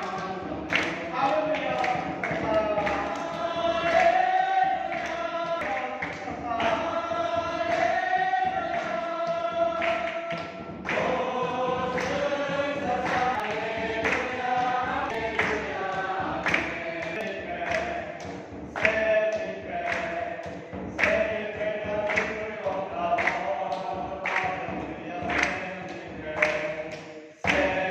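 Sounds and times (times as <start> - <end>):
congregation singing a hymn: 0.0 - 27.9
hands clapping in time: 0.0 - 27.9.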